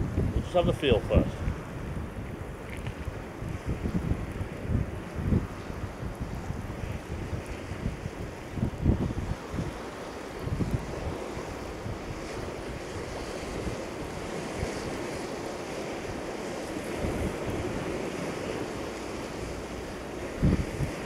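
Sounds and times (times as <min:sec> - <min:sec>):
sea surf on rocks: 0:00.0 - 0:21.0
wind buffeting microphone: 0:00.0 - 0:21.0.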